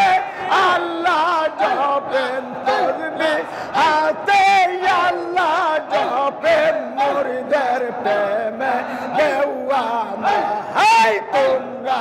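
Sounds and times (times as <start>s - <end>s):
men chanting devotional song: 0.0s - 12.0s.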